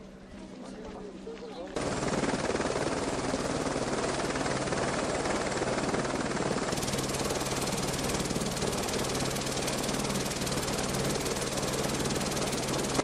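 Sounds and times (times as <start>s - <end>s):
helicopter engine and rotor drone: 1.8s - 13.0s.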